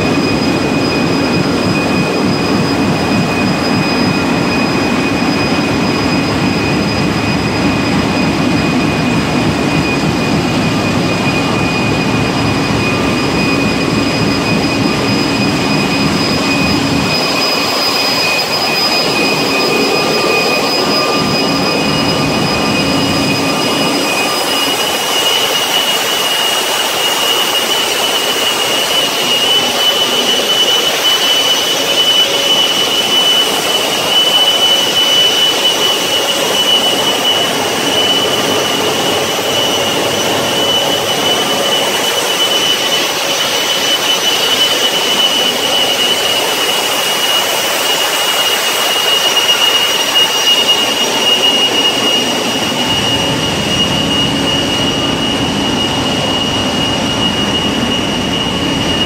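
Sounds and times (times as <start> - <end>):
engine room rumble: 0.0 - 59.0
high-pitched machine whine: 0.0 - 59.0.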